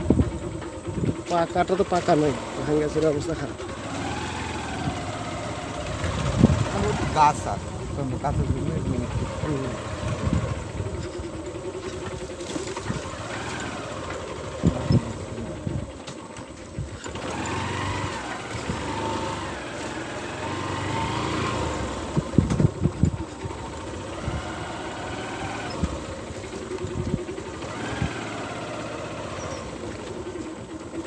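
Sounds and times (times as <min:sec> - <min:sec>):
small vehicle engine running: 0:00.0 - 0:31.0.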